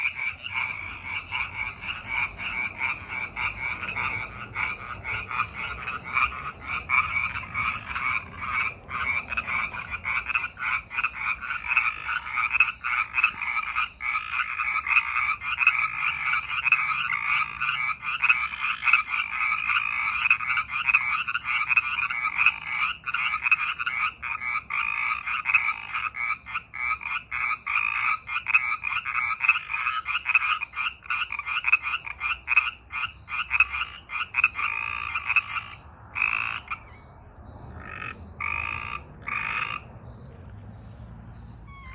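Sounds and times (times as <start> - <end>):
frogs calling: 0.0 - 41.9.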